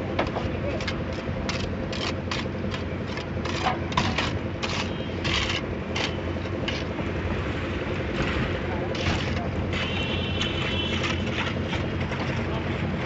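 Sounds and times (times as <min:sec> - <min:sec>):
wet concrete scraping rattles: 0:00.0 - 0:07.2, 0:08.1 - 0:13.0
concrete mixer engine running: 0:00.0 - 0:13.0.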